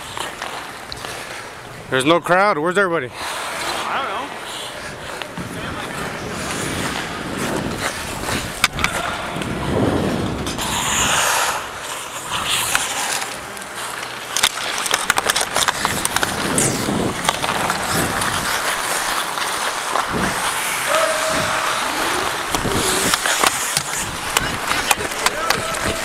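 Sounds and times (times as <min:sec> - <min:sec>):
hockey sticks clacking on ice: 0:00.0 - 0:01.6, 0:03.3 - 0:26.0
skates scraping on ice: 0:00.0 - 0:01.9, 0:03.1 - 0:26.0
steady rush of noise: 0:04.3 - 0:26.0.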